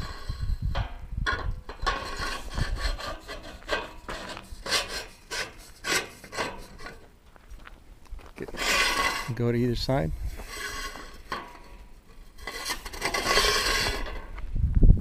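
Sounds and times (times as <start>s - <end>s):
gate hinge creaking and scraping: 0.0s - 7.1s, 8.4s - 14.4s.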